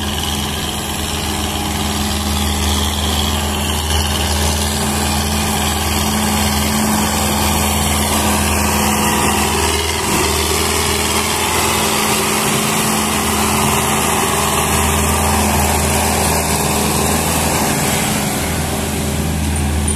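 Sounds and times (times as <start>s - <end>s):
tractor diesel engine under load: 0.0s - 19.9s.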